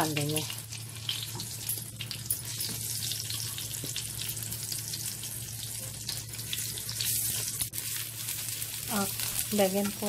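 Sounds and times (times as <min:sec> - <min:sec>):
eggplant sizzling in oil: 0:00.0 - 0:10.0.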